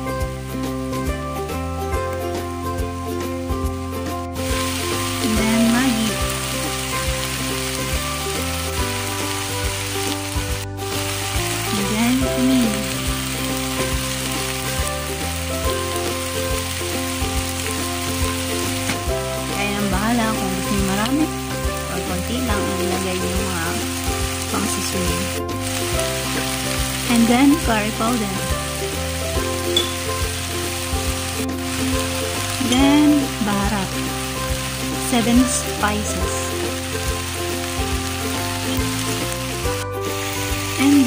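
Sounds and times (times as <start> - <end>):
background music: 0.0 - 41.0
food sizzling in a pot: 0.0 - 41.0.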